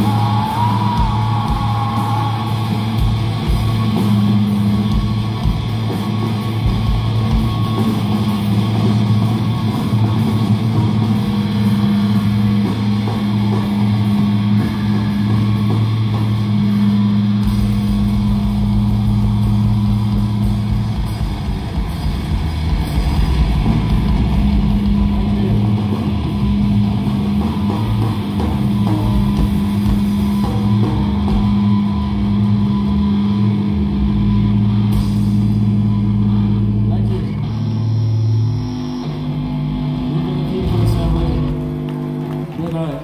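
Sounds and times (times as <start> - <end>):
deep rumble: 0.0 - 37.9
rock band playing loudly: 0.0 - 43.0.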